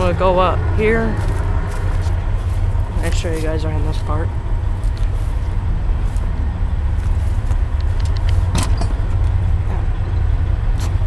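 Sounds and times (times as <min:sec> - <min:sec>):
low rumble of passing train: 0:00.0 - 0:11.0.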